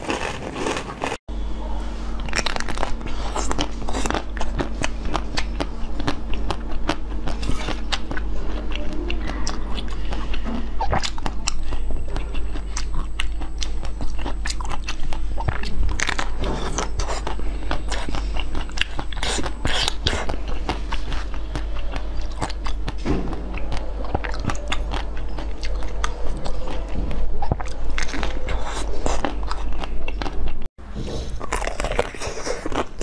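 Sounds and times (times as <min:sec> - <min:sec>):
crunching into hard treat: 0:00.0 - 0:01.2, 0:02.2 - 0:08.2, 0:09.4 - 0:30.4, 0:31.1 - 0:33.0
chewing: 0:02.2 - 0:33.0.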